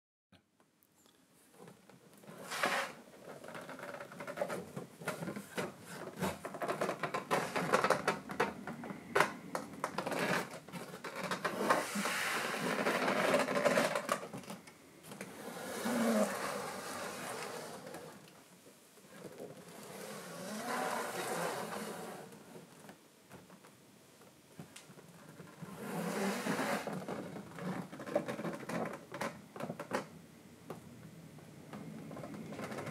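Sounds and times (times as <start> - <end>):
cardboard and plastic rustling: 1.5 - 18.4, 19.0 - 30.1.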